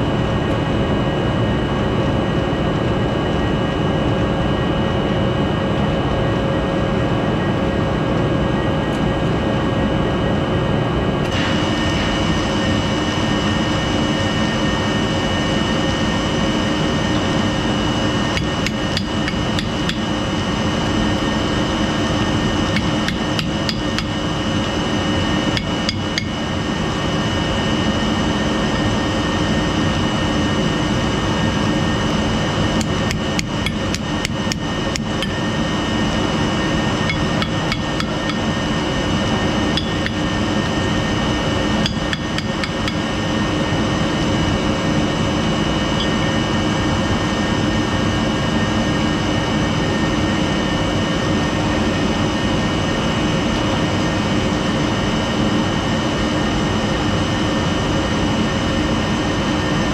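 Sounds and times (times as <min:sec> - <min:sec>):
industrial machinery whining: 0:00.0 - 0:59.9.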